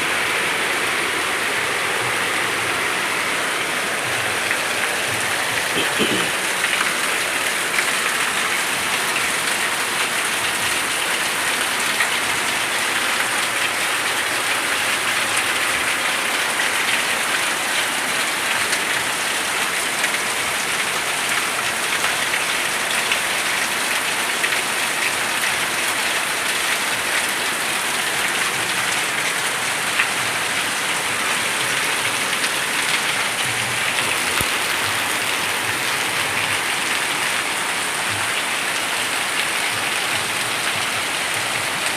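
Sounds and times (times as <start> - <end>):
steady rain pattering: 0.0 - 41.9.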